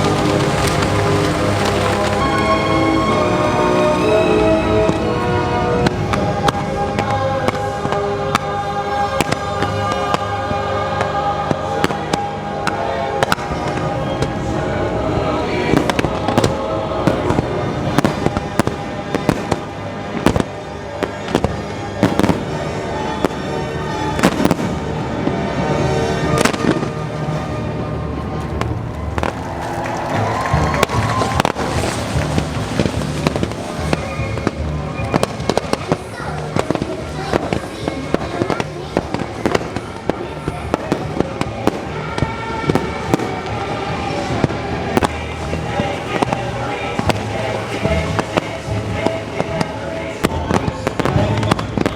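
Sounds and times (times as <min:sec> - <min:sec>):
fireworks bangs: 0:00.0 - 0:51.9
music soundtrack: 0:00.0 - 0:51.9.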